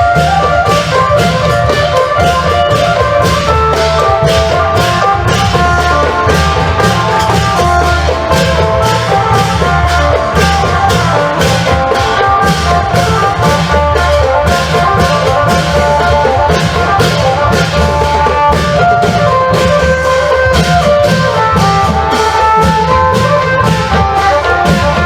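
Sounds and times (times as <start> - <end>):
fast steady drumbeat: 0.0 - 25.0.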